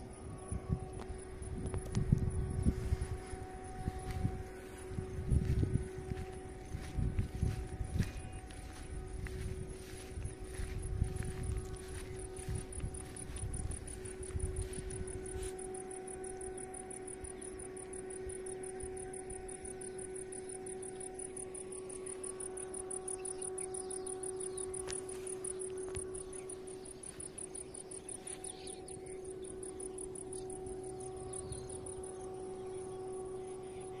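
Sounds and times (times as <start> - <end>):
crickets chirping: 0.0 - 34.0
steady hum: 0.0 - 34.0.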